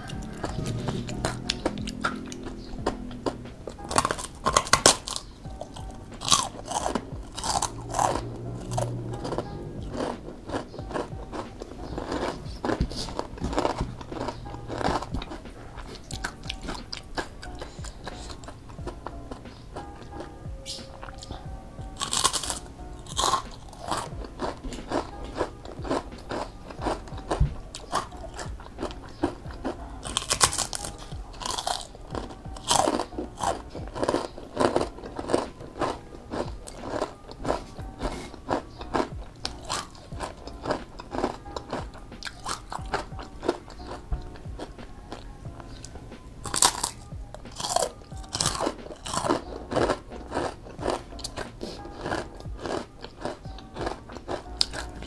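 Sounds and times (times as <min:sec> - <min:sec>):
crunchy food chewing: 0:00.0 - 0:55.0.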